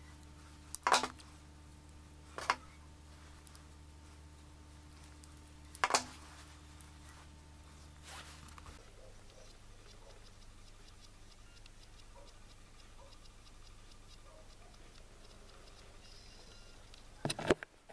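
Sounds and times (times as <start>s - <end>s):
light regular ticking: 0.0s - 17.2s.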